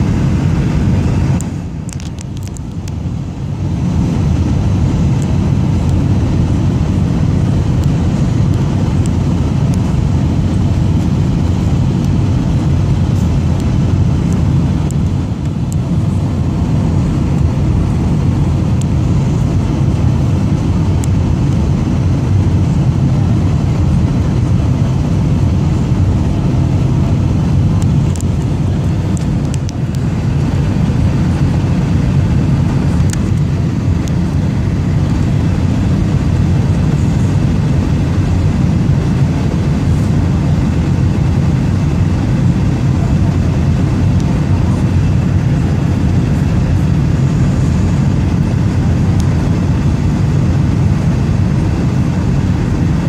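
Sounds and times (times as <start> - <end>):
engine rumble: 0.0 - 53.0
rushing airflow: 0.0 - 53.0.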